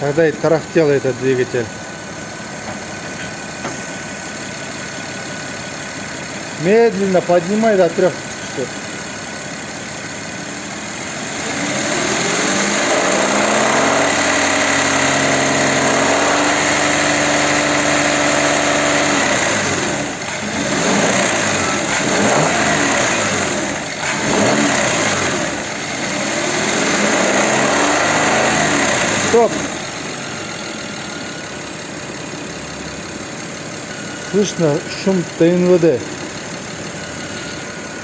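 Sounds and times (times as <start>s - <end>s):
car engine revving: 0.0s - 32.2s.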